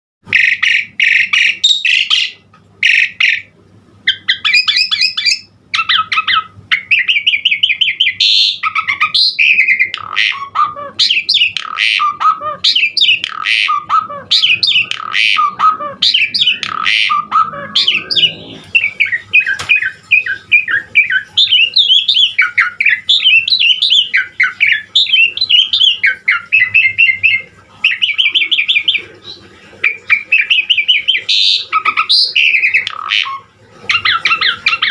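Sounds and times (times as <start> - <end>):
starling singing: 0.3 - 34.9.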